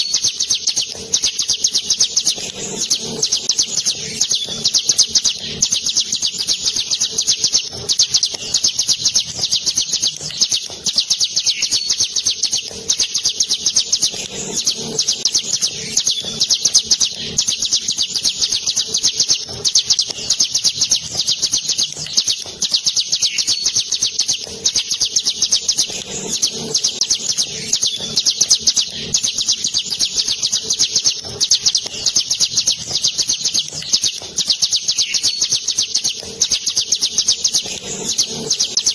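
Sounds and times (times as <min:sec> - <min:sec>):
bird singing rolling trill: 0:00.0 - 0:38.9.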